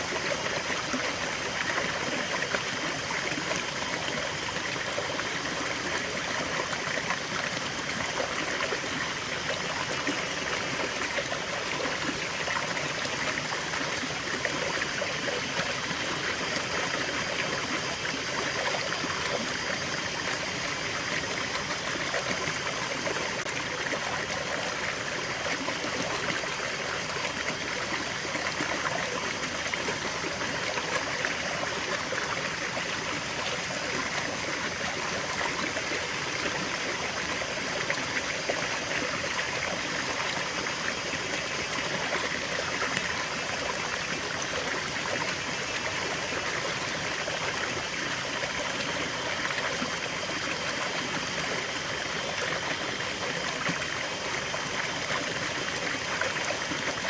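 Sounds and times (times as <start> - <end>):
small stream trickling: 0.0 - 57.0.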